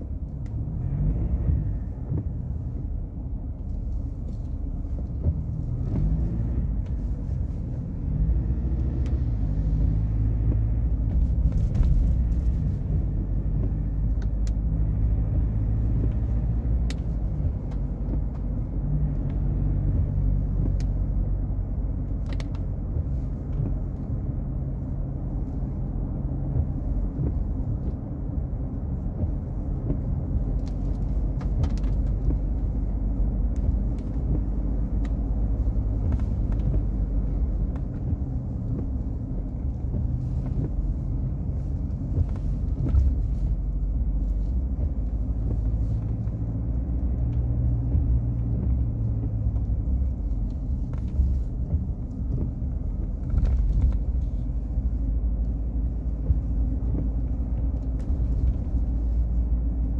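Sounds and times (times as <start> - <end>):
pickup engine rumble: 0.0 - 59.9.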